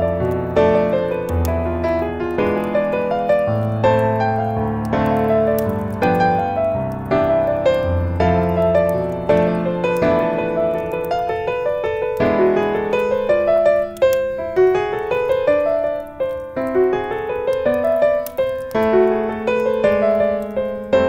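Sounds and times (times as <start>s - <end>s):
solo piano melody: 0.0s - 21.0s.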